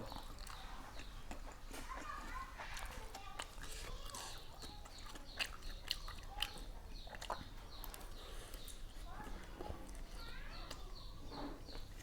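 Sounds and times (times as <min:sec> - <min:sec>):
person chewing food: 0:00.0 - 0:02.0, 0:02.6 - 0:10.9.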